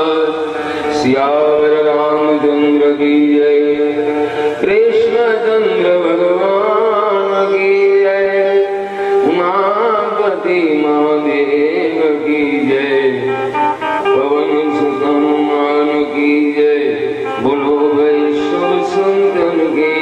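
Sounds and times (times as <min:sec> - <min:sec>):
instrumental accompaniment: 0:00.0 - 0:20.0
person singing devotional song: 0:00.0 - 0:20.0.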